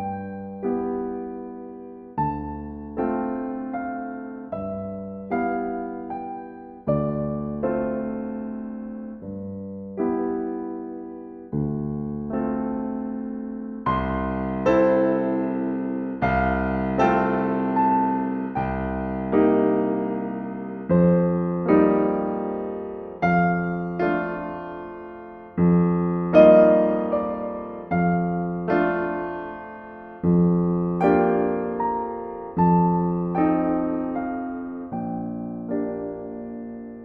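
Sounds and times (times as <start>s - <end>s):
slow solo piano: 0.0s - 37.0s.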